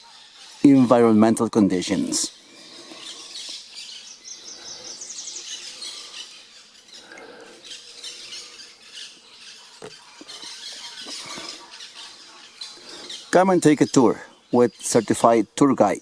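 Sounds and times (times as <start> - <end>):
songbirds chirping and whistling: 0.0 - 16.0.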